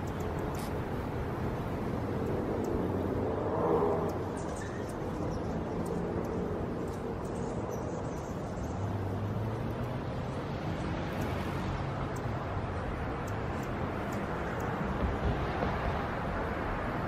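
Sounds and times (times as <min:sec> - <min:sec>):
hummingbird wings whirring: 0:00.0 - 0:16.8.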